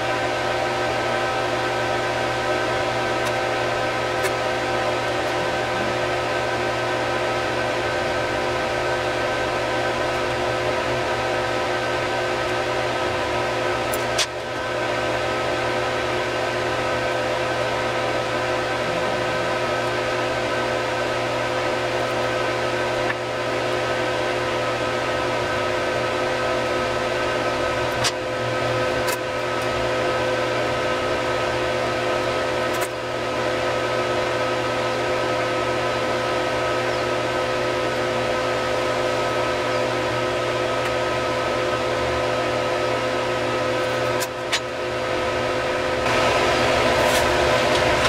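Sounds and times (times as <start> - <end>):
fan whirring with hum: 0.0 - 48.0.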